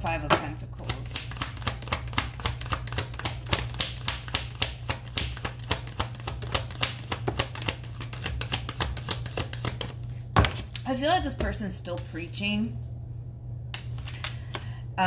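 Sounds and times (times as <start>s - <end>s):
low steady hum: 0.0s - 15.0s
cards being shuffled: 0.8s - 12.3s, 13.7s - 14.8s.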